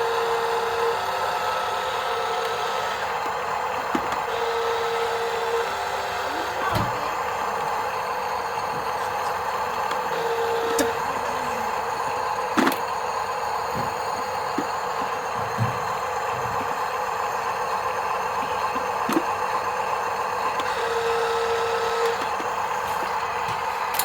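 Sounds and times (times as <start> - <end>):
motor whine: 0.0 - 24.0
small electric motors running: 0.0 - 24.0.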